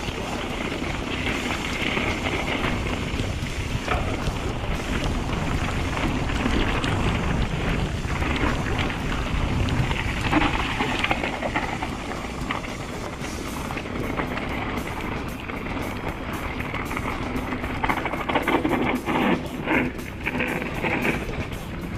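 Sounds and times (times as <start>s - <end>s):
bike knocks and clatters: 0.0s - 21.9s
bike tyres rolling over wet gravel: 0.0s - 21.9s
rain pattering: 0.0s - 21.9s
wind buffeting microphone: 0.0s - 21.9s.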